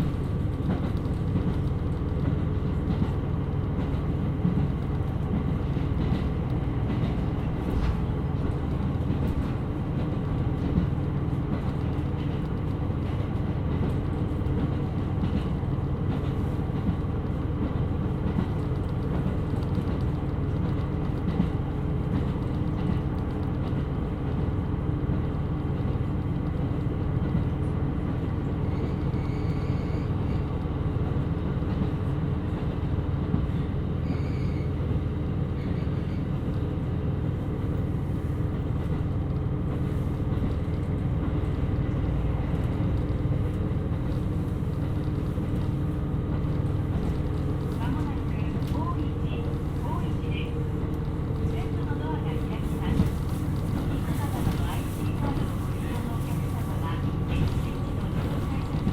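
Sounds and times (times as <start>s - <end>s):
diesel railcar engine drone: 0.0s - 58.9s
wheels rumbling on rail: 0.0s - 58.9s.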